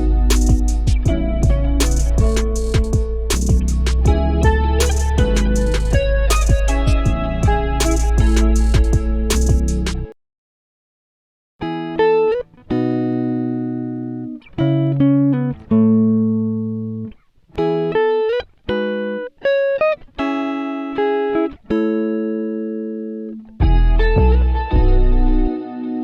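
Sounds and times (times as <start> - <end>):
plucked guitar melody: 0.0 - 10.1, 11.6 - 26.0.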